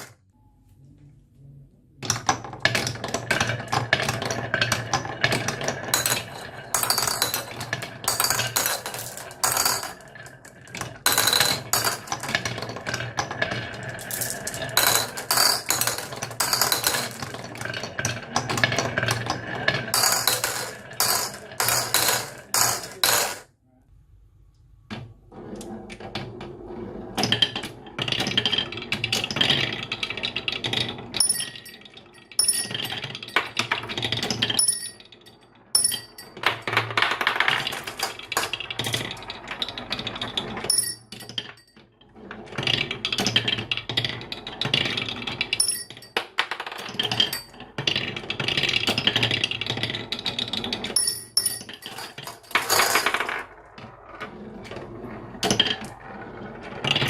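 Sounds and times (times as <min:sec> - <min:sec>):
marbles rolling and clattering: 0:02.0 - 0:23.5, 0:26.1 - 0:57.0.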